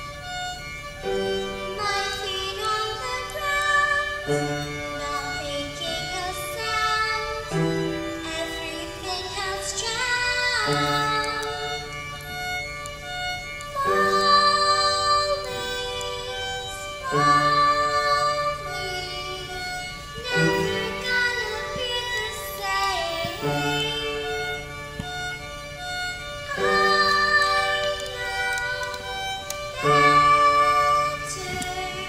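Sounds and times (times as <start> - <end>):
violin melody: 0.0 - 32.0
girl singing: 1.4 - 12.2, 13.5 - 32.0.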